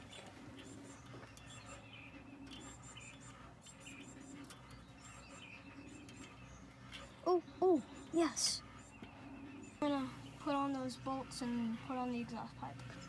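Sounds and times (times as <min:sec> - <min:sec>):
faint bird chirps: 0:00.0 - 0:12.2
low background hum: 0:00.0 - 0:13.0.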